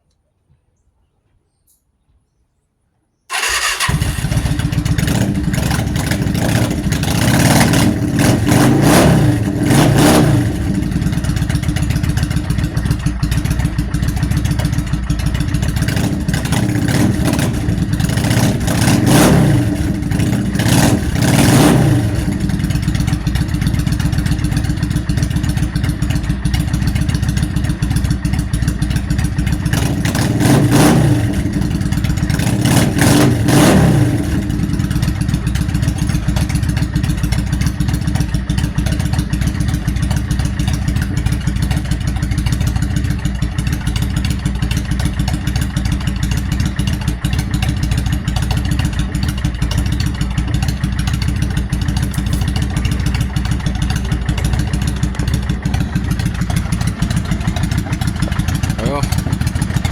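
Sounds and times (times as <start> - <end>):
motorcycle engine idling and revving: 3.3 - 59.9.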